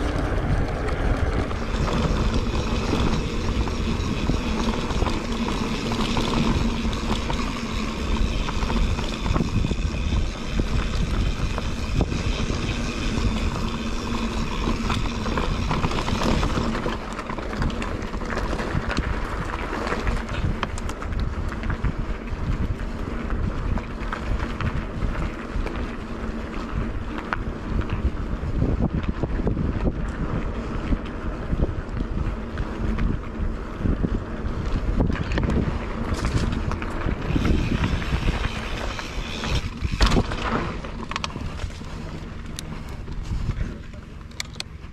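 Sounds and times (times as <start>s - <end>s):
tyres rattling on gravel: 0.0s - 30.3s, 32.2s - 44.9s
bike tyres rumbling on dirt trail: 0.0s - 44.9s
wind buffeting microphone: 0.0s - 44.9s.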